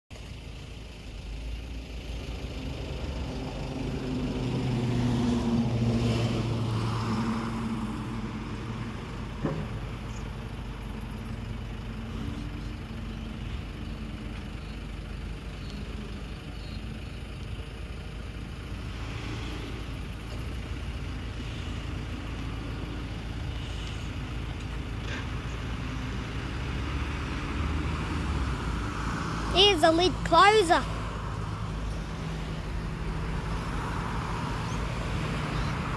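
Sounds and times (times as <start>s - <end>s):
garbage truck engine: 0.1s - 35.9s
cars passing: 0.3s - 35.9s.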